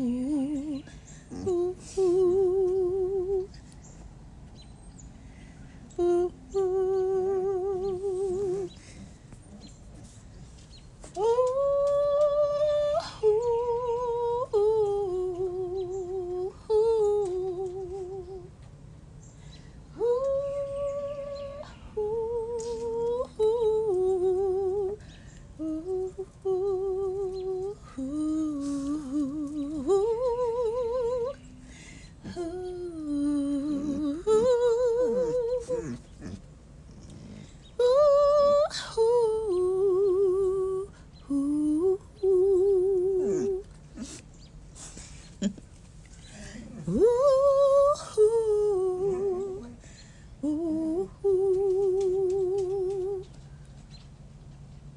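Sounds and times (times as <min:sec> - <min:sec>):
woman humming a slow melody: 0:00.0 - 0:03.8, 0:05.8 - 0:09.9, 0:11.1 - 0:18.9, 0:19.5 - 0:36.4, 0:37.1 - 0:44.3, 0:46.2 - 0:53.5.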